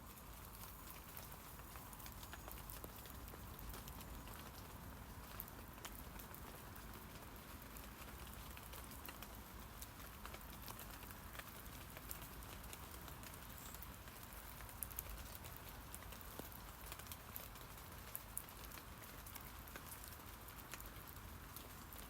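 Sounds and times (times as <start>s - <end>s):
rain on leaves hissing: 0.0s - 22.0s.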